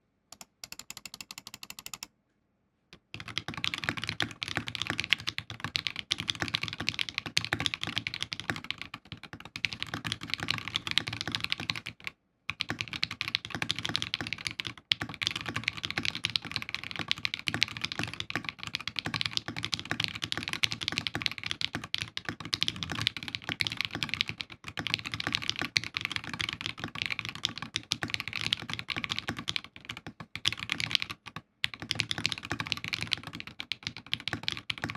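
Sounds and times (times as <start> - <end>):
fast mechanical keyboard typing: 0.4 - 2.1, 3.0 - 34.9.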